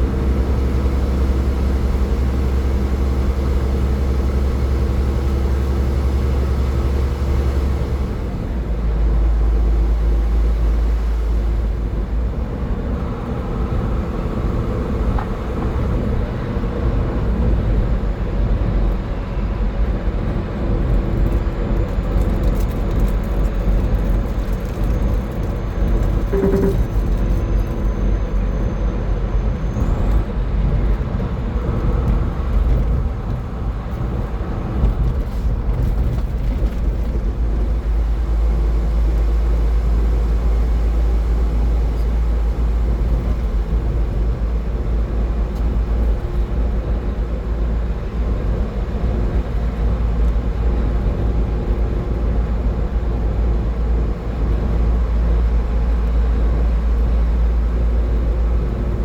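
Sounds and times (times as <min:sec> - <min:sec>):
car driving on a highway: 0:00.0 - 0:59.0.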